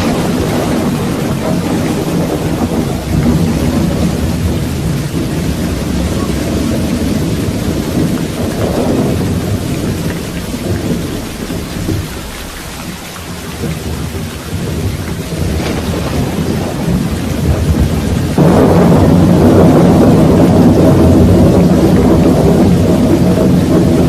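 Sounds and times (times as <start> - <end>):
rolling thunder: 0.0 - 24.0
steady rain: 0.0 - 24.0.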